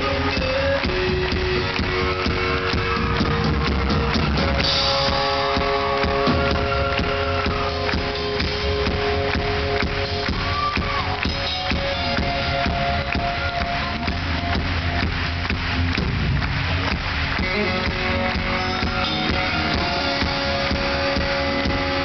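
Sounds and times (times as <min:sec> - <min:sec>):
drum kit beating: 0:00.0 - 0:22.0
electric guitar sustained notes: 0:00.0 - 0:22.0.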